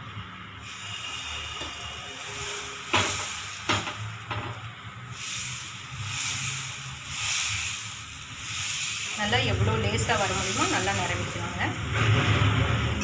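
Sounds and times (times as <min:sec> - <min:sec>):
batter sizzling on griddle: 0:00.6 - 0:12.9.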